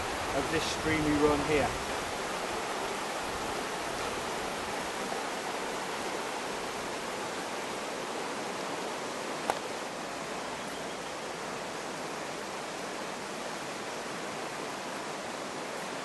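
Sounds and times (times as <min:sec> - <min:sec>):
stream rushing over stones: 0:00.0 - 0:16.0.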